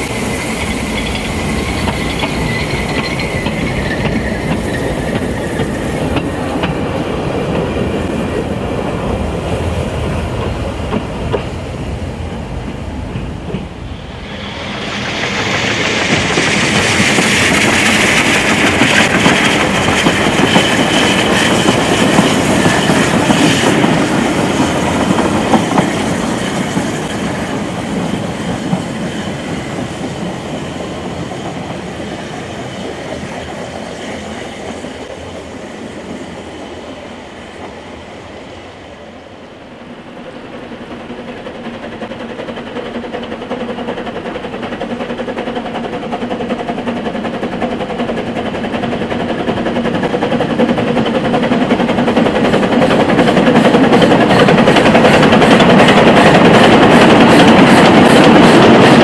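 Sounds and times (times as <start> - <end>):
train running: 0.0 - 59.0.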